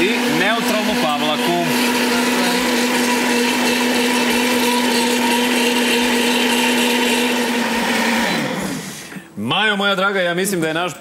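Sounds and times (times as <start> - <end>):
blender motor whine: 0.0 - 9.1
soup churning: 0.0 - 9.1.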